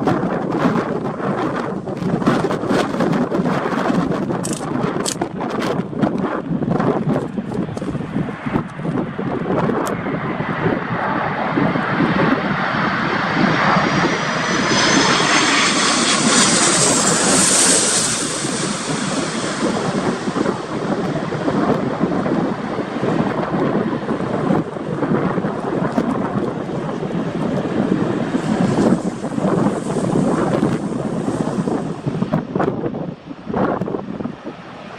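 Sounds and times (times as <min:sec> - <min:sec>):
jet airliner passing: 0:00.0 - 0:34.9
wind gusting on microphone: 0:00.0 - 0:34.9.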